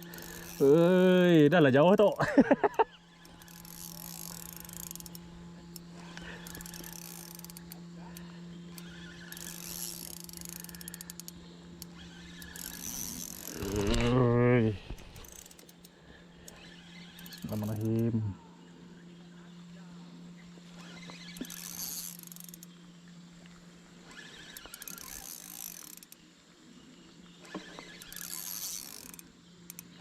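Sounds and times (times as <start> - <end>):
spinning reel whirring: 0.0 - 18.4, 20.3 - 23.0, 24.0 - 26.2, 27.4 - 30.0
low hum: 0.0 - 25.8.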